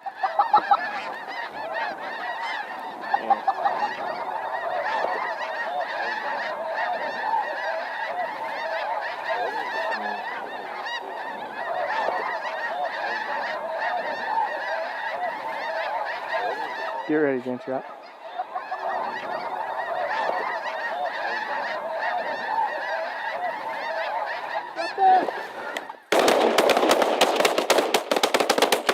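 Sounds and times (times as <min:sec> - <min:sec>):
geese honking: 0:00.0 - 0:28.9.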